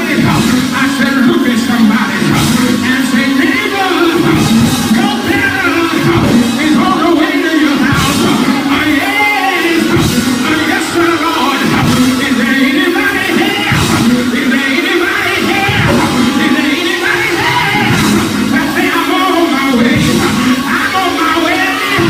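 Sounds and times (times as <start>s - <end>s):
live church band music: 0.0s - 22.0s
people singing: 0.0s - 22.0s
shouted vocals: 0.0s - 22.0s.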